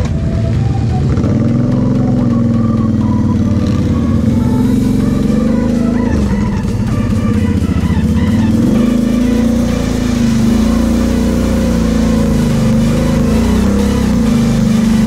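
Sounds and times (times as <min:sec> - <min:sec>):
quad engine running at low revs: 0:00.0 - 0:15.0.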